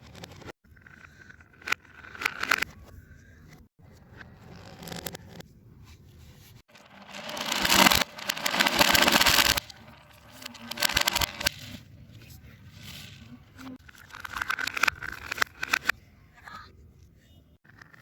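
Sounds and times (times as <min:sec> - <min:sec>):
fidget toy clicks and scrapes: 0:00.0 - 0:05.4, 0:06.6 - 0:16.7.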